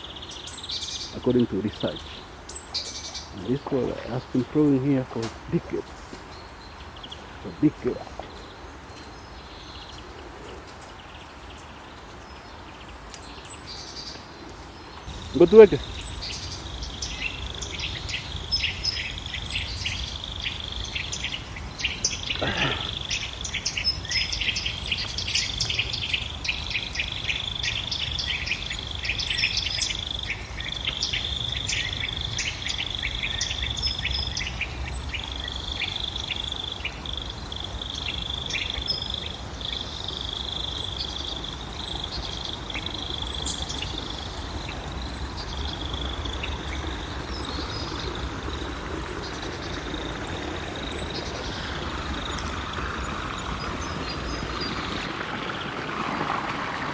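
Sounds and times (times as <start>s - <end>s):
insect chorus trilling: 0.0s - 8.6s, 15.1s - 56.8s
bird chirps: 0.0s - 14.3s, 14.9s - 55.2s.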